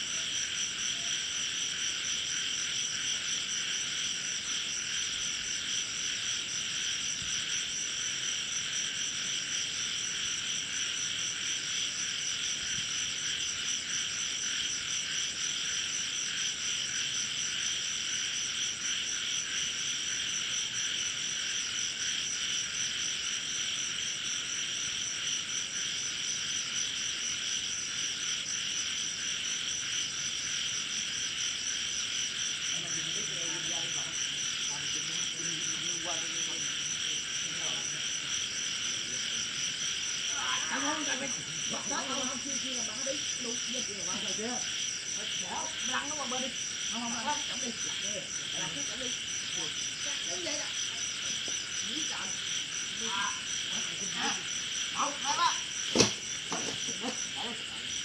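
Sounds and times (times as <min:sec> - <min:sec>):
frogs and insects trilling: 0:00.0 - 0:58.0.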